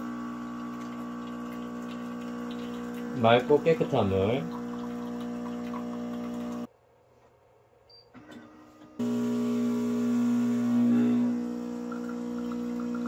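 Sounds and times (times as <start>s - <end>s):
coffee machine pump humming: 0.0s - 6.7s, 9.0s - 13.0s.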